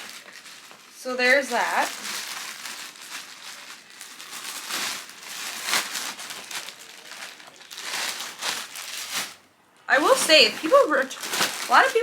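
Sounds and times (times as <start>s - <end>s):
clothing rustling: 0.0s - 12.0s
plastic packaging crinkling: 0.0s - 12.0s.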